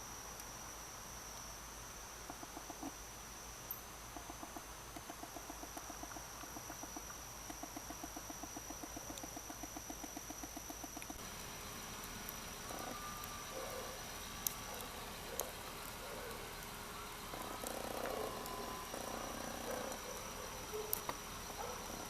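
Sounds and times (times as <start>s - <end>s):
high insect drone: 0.0s - 22.0s
rapidly repeated animal calls: 2.2s - 3.0s, 4.1s - 11.2s, 12.2s - 22.0s.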